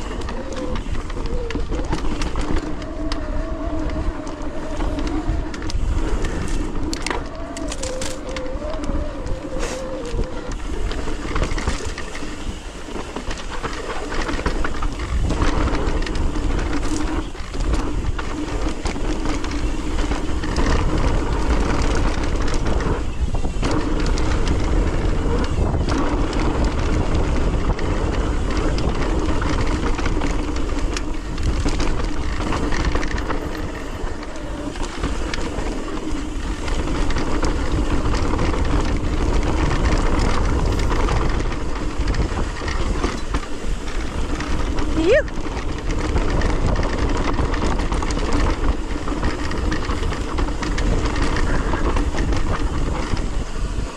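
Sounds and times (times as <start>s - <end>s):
bike rattling: 0.0s - 53.9s
bike tyres rumbling on dirt: 0.0s - 53.9s
wind buffeting microphone: 0.0s - 53.9s.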